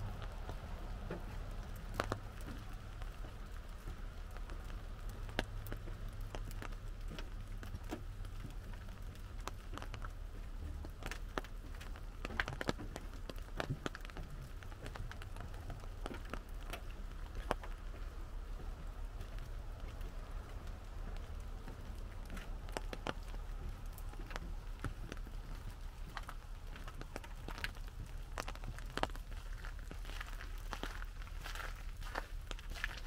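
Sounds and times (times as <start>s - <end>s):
low steady rumble: 0.0s - 33.0s
raindrops tapping on an umbrella: 0.0s - 33.0s.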